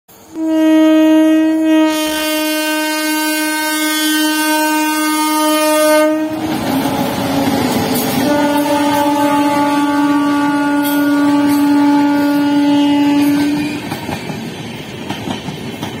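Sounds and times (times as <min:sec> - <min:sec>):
train rushing past: 0:00.1 - 0:16.0
train horn blast: 0:00.2 - 0:14.1.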